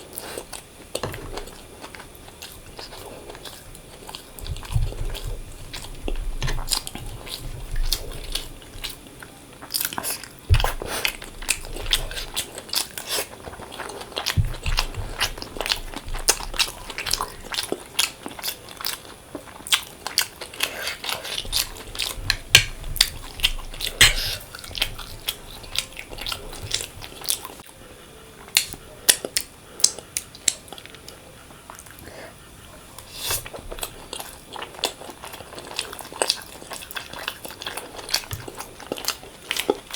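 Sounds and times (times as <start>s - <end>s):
person chewing and biting: 0.0s - 27.6s, 33.1s - 39.9s.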